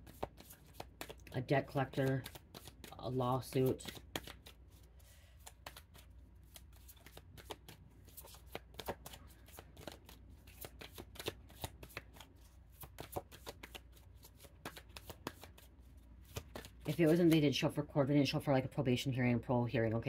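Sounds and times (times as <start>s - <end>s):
cards being shuffled: 0.0s - 17.7s.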